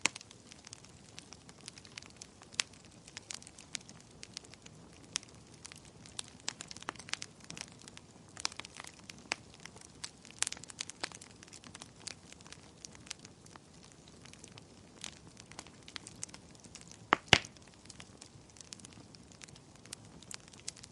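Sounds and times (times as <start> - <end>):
wood fire popping and snapping: 0.0 - 20.9.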